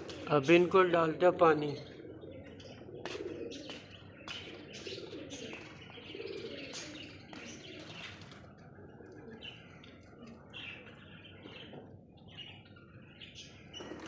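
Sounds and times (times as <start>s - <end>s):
birds chirping: 0.0s - 14.0s
doves cooing: 0.0s - 14.0s.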